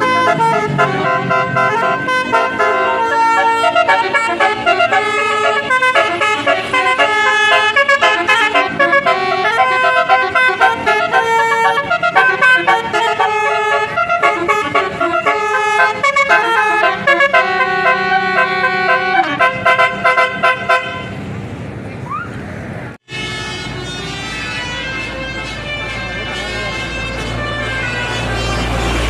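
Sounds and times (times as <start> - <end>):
bus horn melody: 0.0 - 21.3, 23.1 - 29.0.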